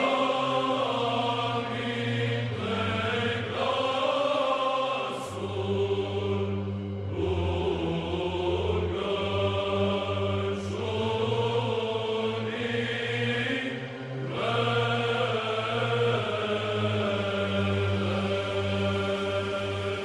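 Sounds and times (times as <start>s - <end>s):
sung chant melody: 0.0s - 20.0s.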